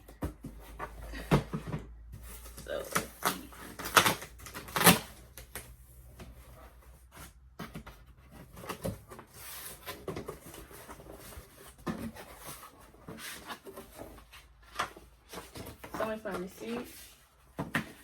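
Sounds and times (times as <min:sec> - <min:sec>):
paper and cardboard rustling: 0:00.0 - 0:18.0.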